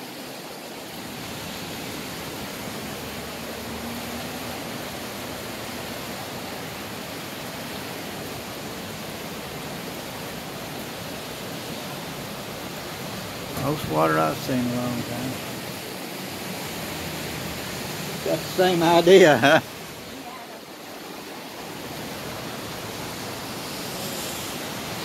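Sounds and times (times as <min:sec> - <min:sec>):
river rushing: 0:00.0 - 0:25.0.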